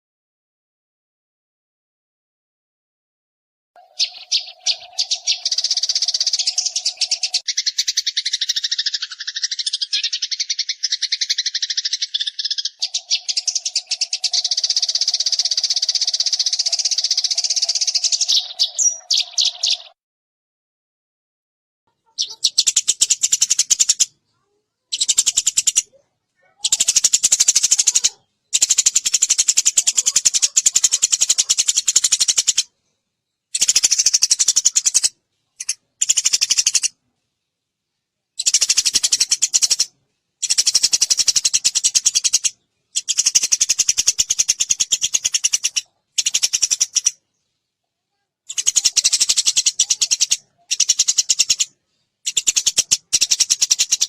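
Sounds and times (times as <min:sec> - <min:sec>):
sparrows chirping rapidly: 0:03.8 - 0:20.0, 0:21.9 - 0:47.8, 0:48.5 - 0:54.0.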